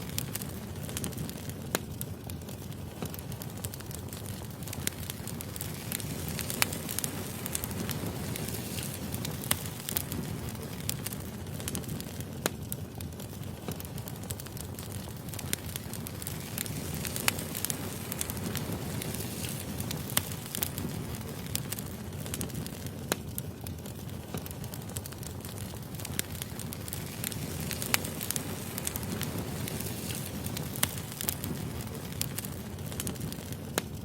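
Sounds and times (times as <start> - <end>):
fire low rumble: 0.0 - 34.0
firewood crackling and popping: 0.0 - 34.0.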